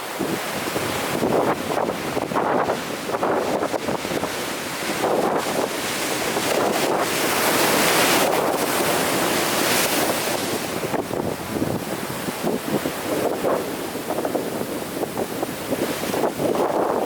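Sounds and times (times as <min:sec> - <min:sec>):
ocean surf breaking on shore: 0:00.0 - 0:17.0.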